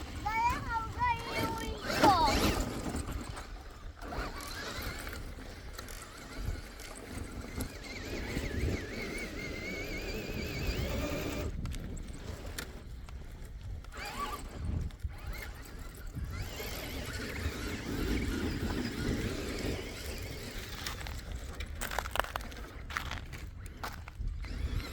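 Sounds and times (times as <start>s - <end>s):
electric motor and gears whining: 0.0s - 24.9s.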